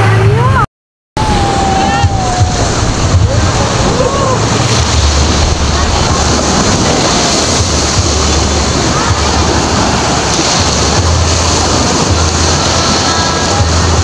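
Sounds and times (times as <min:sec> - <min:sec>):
waves washing on a beach: 0:01.2 - 0:14.0
wind on microphone: 0:01.2 - 0:14.0.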